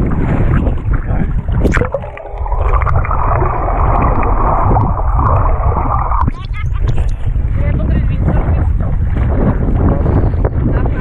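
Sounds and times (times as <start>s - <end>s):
underwater propeller churn: 0.0s - 11.0s
water splashing: 0.0s - 11.0s.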